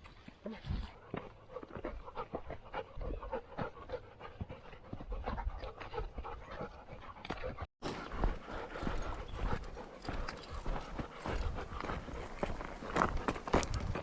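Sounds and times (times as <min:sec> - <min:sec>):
dog panting: 0:00.8 - 0:14.0.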